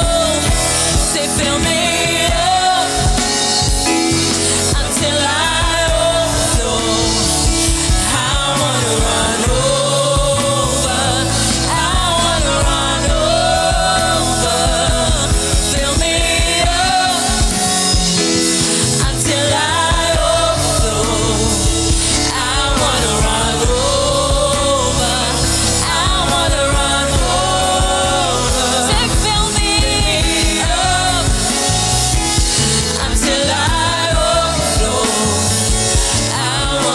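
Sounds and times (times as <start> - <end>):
instrumental backing: 0.0 - 36.9.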